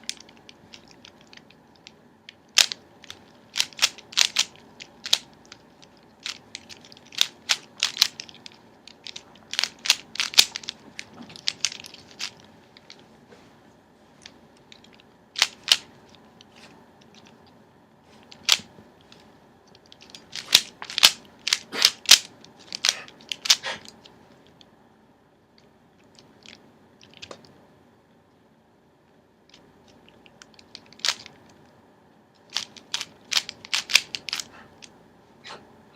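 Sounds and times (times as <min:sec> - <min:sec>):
puzzle cube clacking: 0:00.0 - 0:13.0, 0:14.2 - 0:17.5, 0:18.2 - 0:24.6, 0:26.0 - 0:27.6, 0:29.5 - 0:31.8, 0:32.4 - 0:35.0.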